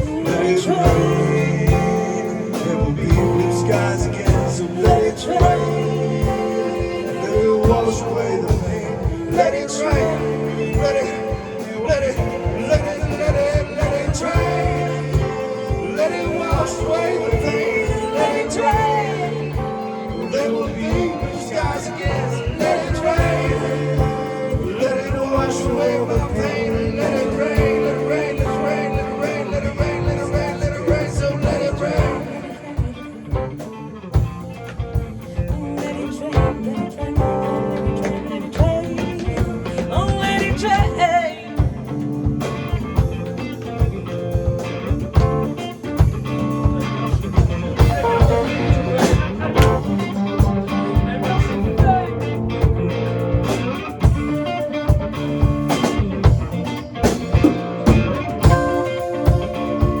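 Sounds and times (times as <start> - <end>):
drum kit steady beat: 0.0 - 60.0
electric guitar: 0.0 - 60.0.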